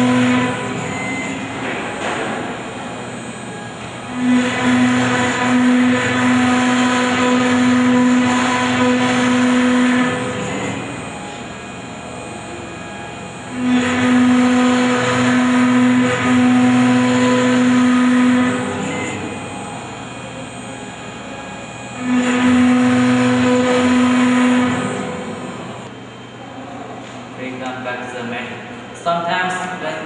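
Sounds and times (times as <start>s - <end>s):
router spindle whining and cutting wood: 0.0s - 1.6s, 3.1s - 26.2s.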